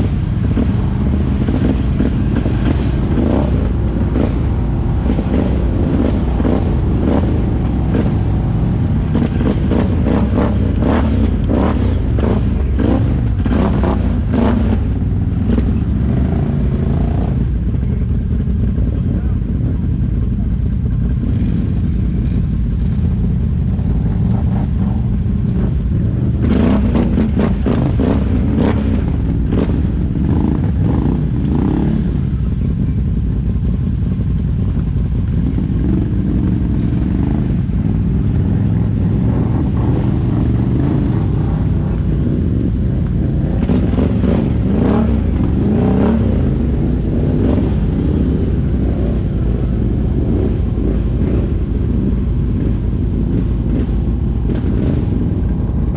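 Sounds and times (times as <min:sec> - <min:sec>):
quad bike engine running: 0:00.0 - 0:55.9.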